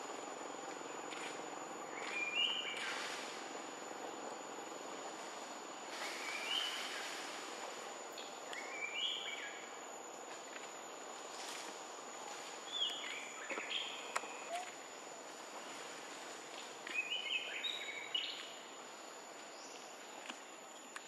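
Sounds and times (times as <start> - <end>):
background hiss: 0.0 - 21.0
thin high whine: 0.0 - 21.0.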